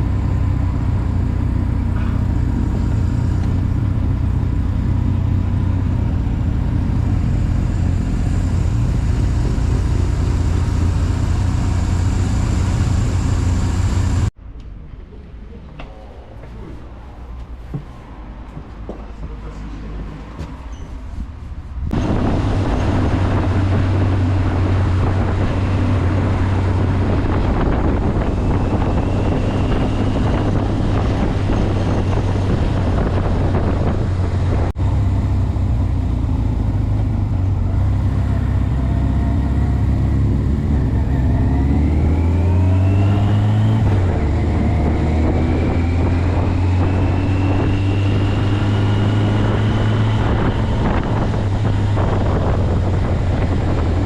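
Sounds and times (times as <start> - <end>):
motorcycle engine accelerating: 0.0 - 14.4, 21.7 - 54.0
wind and road noise: 0.0 - 54.0.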